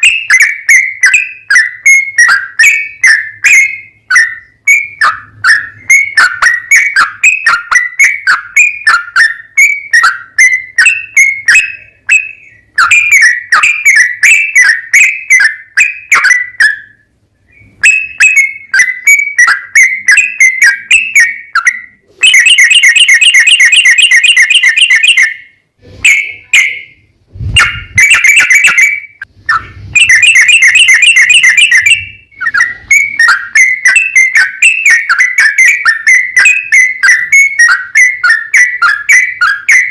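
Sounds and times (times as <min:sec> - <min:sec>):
bird singing bubbly whistles: 0:00.0 - 0:27.0, 0:27.6 - 0:39.9
rapid bird trills: 0:00.0 - 0:39.9.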